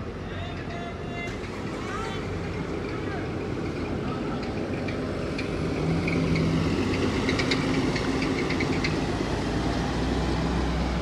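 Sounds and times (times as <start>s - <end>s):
bus driving away: 0.0s - 11.0s.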